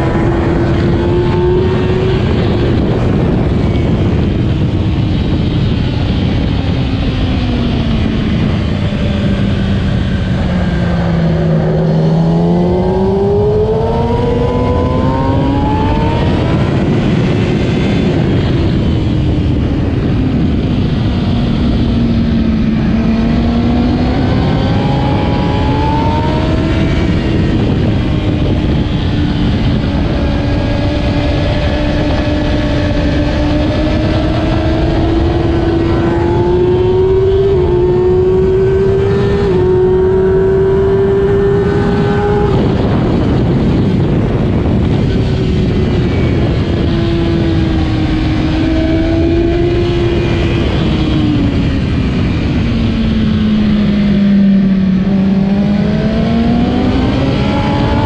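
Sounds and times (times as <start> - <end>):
constant rushing noise: 0.0 - 58.0
motorcycle engine revving: 0.0 - 58.0.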